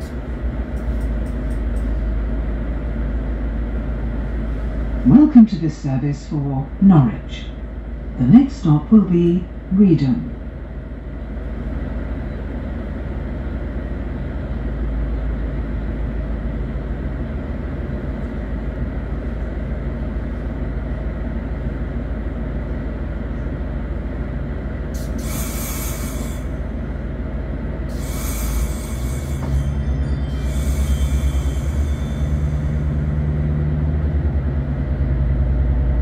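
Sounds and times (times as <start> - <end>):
diesel train engine rumble: 0.0 - 36.0.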